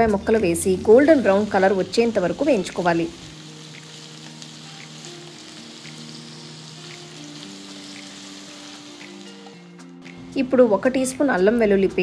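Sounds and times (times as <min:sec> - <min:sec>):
onions sizzling in hot oil: 0:00.0 - 0:12.0
soft background music: 0:00.0 - 0:12.0.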